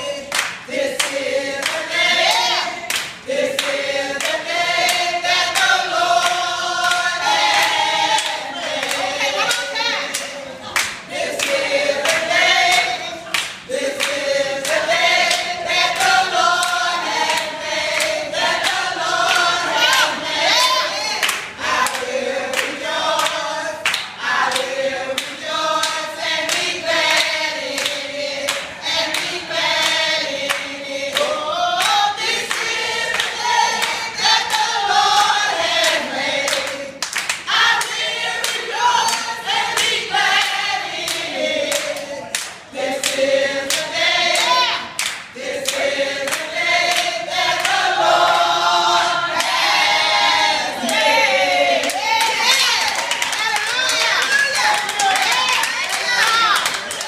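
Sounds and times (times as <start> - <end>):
women singing gospel: 0.0 - 57.0
hand clapping: 0.3 - 20.2, 21.2 - 47.8, 51.8 - 57.0.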